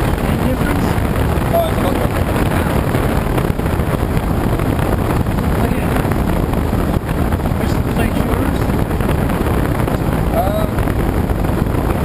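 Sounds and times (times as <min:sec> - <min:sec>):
airflow rushing over glider: 0:00.0 - 0:12.0.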